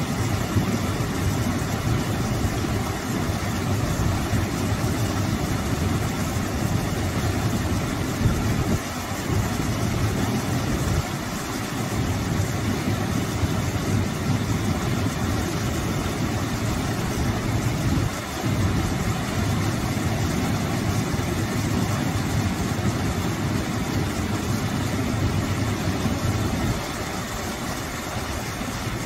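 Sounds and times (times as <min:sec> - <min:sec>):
waterfall splashing into pool: 0:00.0 - 0:29.0.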